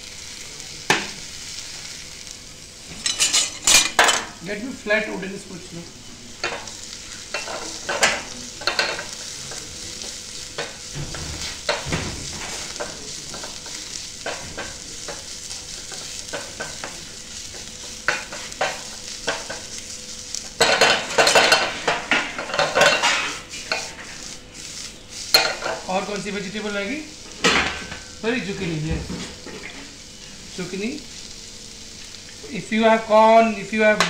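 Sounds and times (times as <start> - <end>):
vegetables sizzling in frying pan: 0.0 - 34.0.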